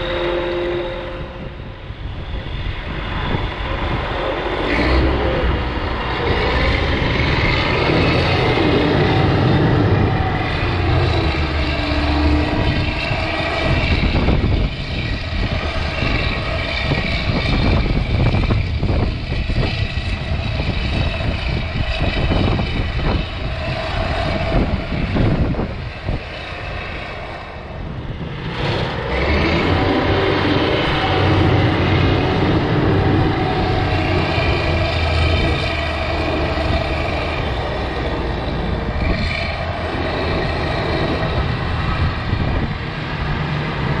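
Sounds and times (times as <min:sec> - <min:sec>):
heavy diesel machinery running: 0:00.0 - 0:44.0.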